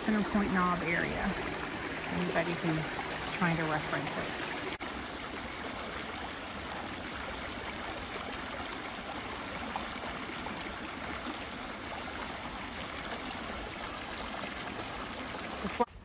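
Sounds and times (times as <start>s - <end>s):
creek flowing over rocks: 0.0s - 16.0s.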